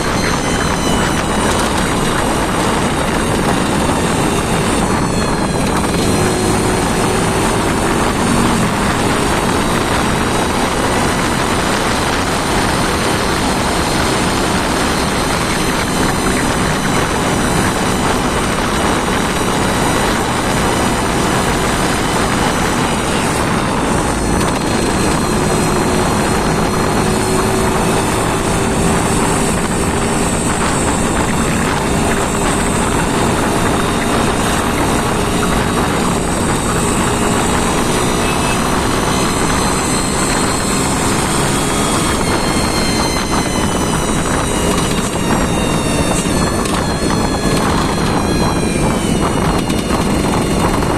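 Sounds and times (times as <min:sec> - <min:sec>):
engine running loudly: 0:00.0 - 0:50.9.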